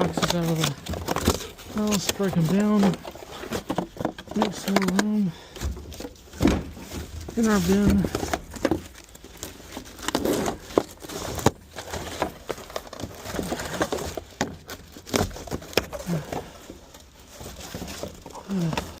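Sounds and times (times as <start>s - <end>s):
cardboard snapping and crumpling: 0.0s - 19.0s.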